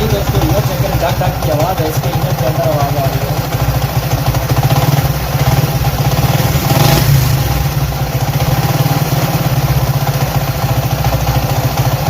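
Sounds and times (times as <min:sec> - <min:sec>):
knocking inside engine: 0:00.0 - 0:12.0
motorcycle engine idling: 0:00.0 - 0:12.0.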